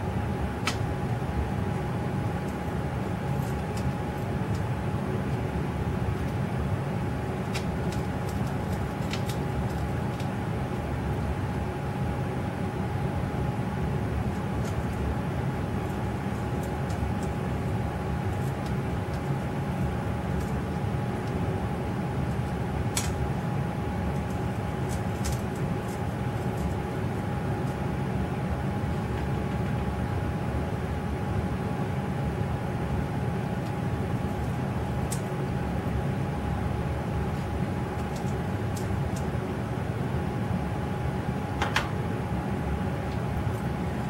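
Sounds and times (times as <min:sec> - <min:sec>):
faint constant whine: 0:00.0 - 0:44.0
low room hum: 0:00.0 - 0:44.0.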